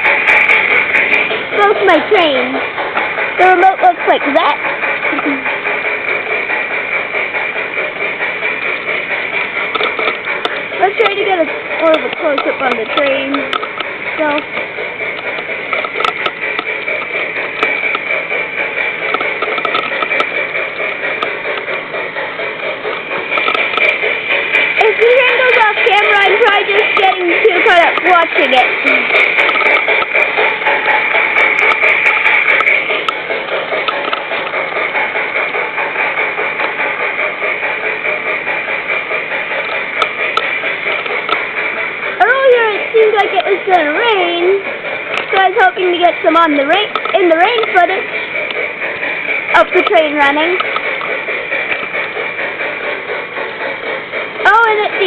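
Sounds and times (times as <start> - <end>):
model train motor whirring: 0.0 - 55.0
wheels clicking on rails: 0.0 - 55.0.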